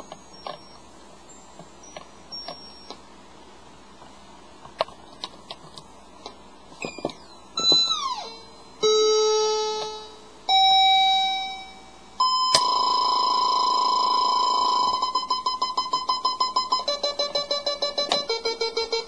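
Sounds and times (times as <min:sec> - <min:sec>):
electronic keyboard notes: 0:00.0 - 0:03.1, 0:06.8 - 0:19.0.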